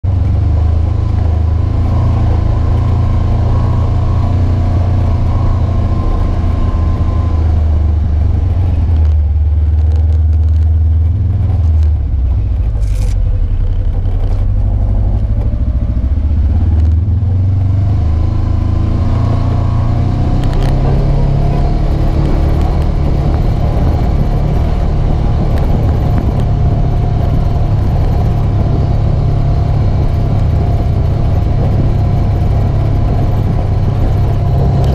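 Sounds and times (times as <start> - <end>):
vehicle engine droning: 0.0 - 34.9.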